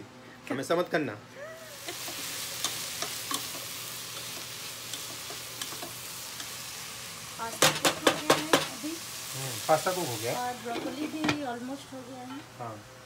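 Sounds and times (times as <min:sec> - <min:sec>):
food sizzling in a pan: 0:01.4 - 0:13.0.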